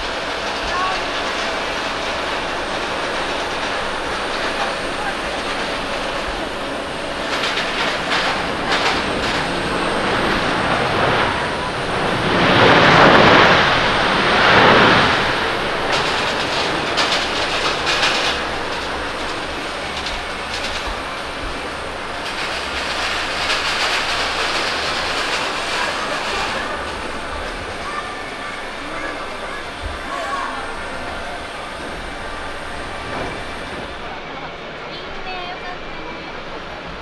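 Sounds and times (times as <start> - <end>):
jet engines in reverse thrust: 0.0 - 37.0.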